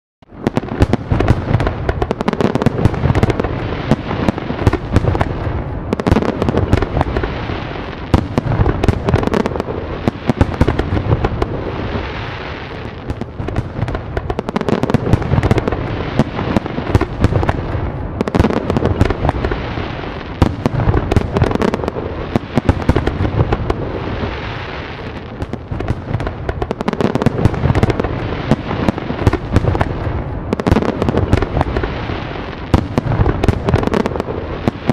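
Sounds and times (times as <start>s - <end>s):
fireworks bangs and crackling: 0.2s - 34.9s.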